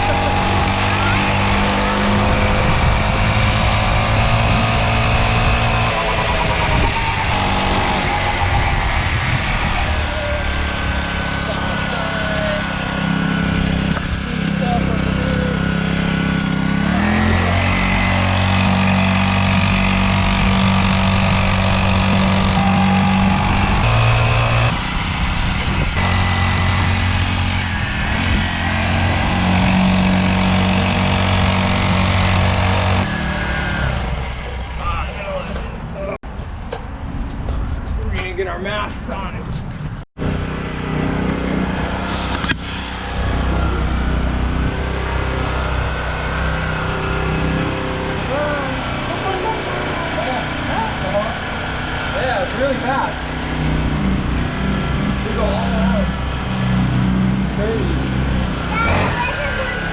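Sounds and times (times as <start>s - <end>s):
dirt bike engine running: 0.0s - 35.7s, 40.2s - 59.9s.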